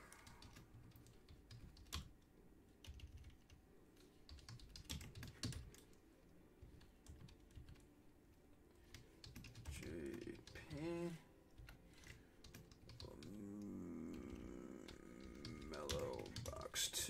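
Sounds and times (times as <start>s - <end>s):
faint keyboard typing: 0.0s - 7.9s, 8.5s - 17.0s.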